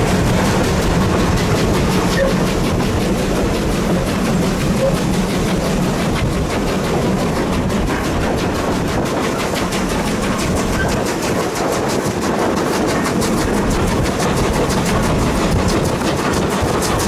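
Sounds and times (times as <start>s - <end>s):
train rumbling on track: 0.0s - 17.0s
wheels on rails: 0.0s - 17.0s.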